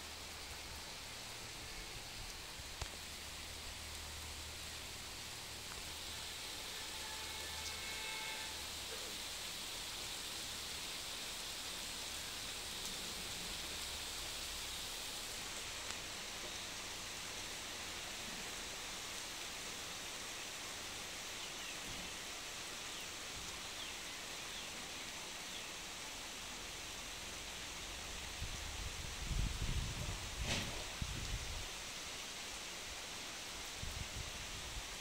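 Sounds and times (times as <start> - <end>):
rain falling on grass: 0.0 - 35.0.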